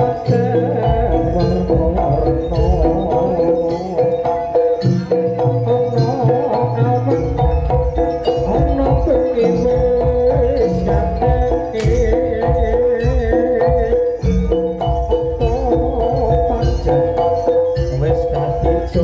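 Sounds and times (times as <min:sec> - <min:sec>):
hand drum patterns: 0:00.0 - 0:19.0
steady percussion beat: 0:00.0 - 0:19.0
wavering held melody: 0:00.0 - 0:19.0.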